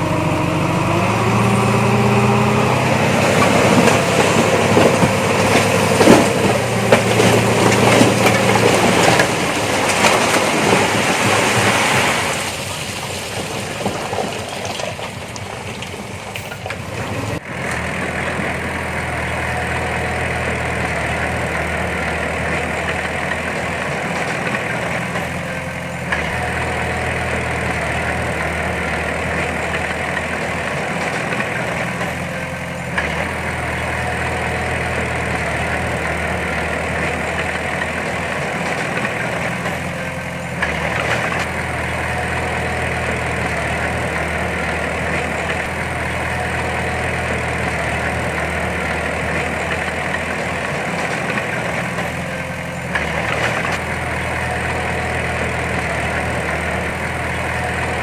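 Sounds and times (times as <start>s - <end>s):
diesel engine running: 0.0s - 58.0s
heavy machinery clatter: 0.0s - 58.0s.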